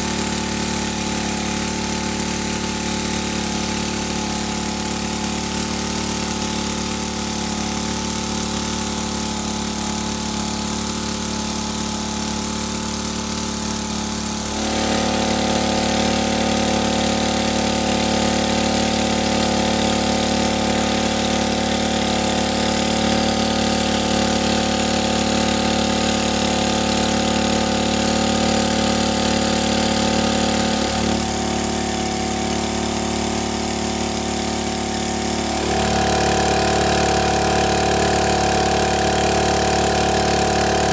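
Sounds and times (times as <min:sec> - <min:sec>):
motor running: 0:00.0 - 0:40.9.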